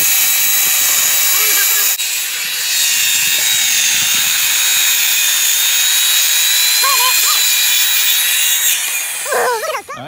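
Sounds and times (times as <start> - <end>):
circular saw cutting wood: 0.0 - 10.0.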